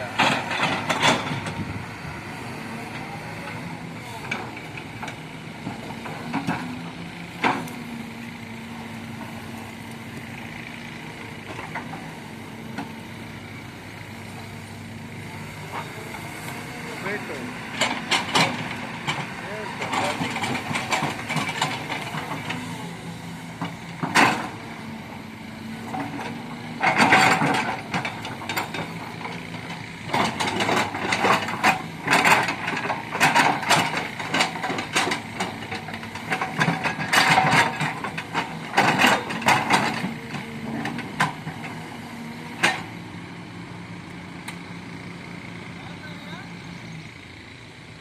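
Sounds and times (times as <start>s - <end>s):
excavator clanks and knocks: 0.0s - 43.1s
diesel engine running: 0.0s - 48.0s.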